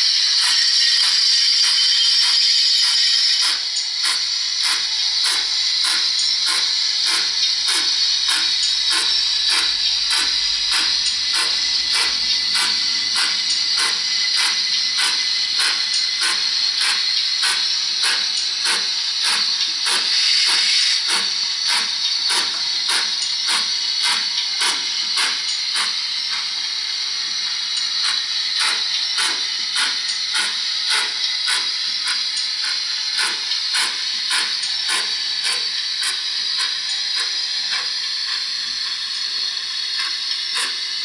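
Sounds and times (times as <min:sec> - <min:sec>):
steam hiss: 0:00.0 - 0:41.0
steam locomotive chuffing: 0:00.0 - 0:41.0.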